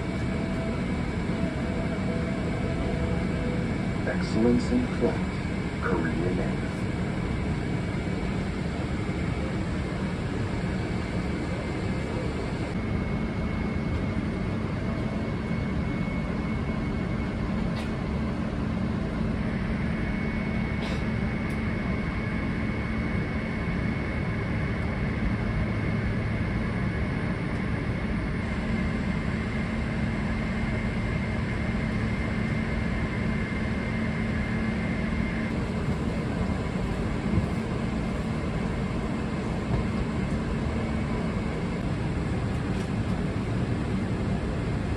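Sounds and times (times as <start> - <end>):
aircraft cabin low rumble: 0.0 - 44.9.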